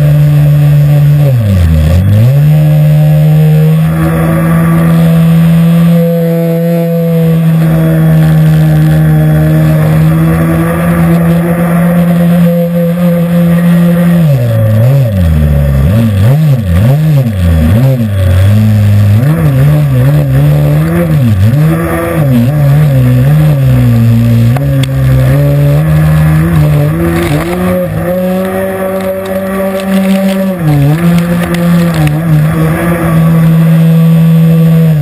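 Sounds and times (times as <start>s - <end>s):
model airboat engine revving: 0.0s - 35.0s.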